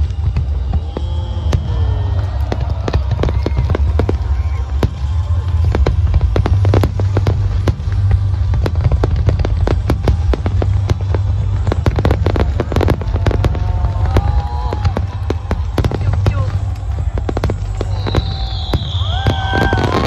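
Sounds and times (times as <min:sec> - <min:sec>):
fireworks bangs and crackles: 0:00.0 - 0:20.0
low rumble: 0:00.9 - 0:19.5.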